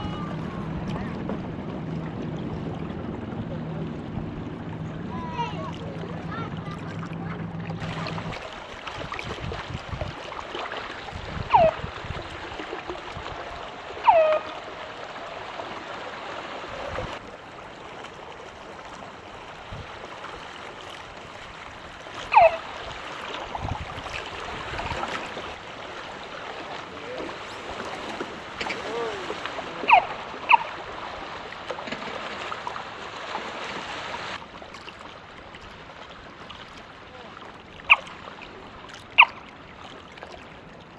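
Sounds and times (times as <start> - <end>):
water rushing along boat hull: 0.0 - 40.9.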